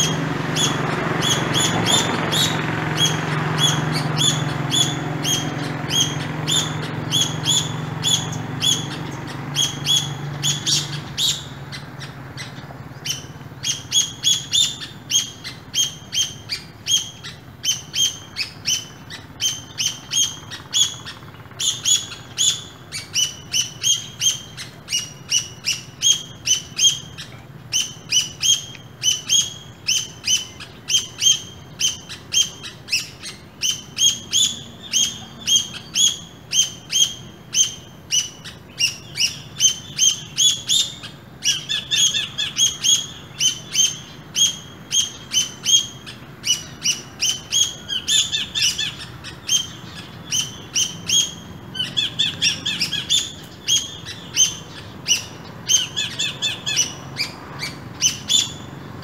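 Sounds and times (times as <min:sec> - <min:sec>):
squirrels chirping: 0:00.0 - 0:59.0.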